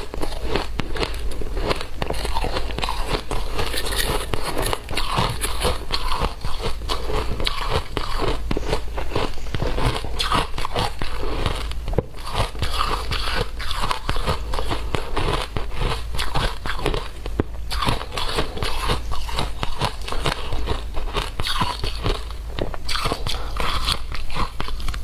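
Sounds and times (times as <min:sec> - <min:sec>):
person chewing shaved ice: 0:00.0 - 0:25.0.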